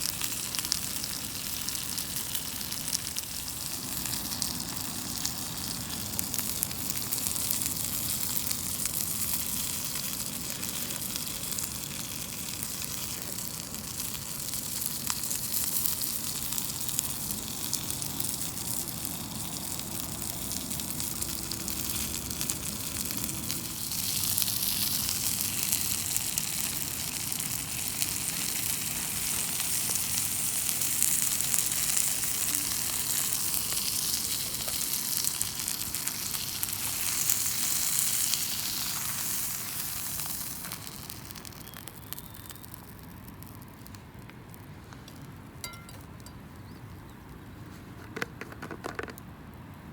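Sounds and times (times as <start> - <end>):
chicken sizzling in a skillet: 0.0 - 43.9.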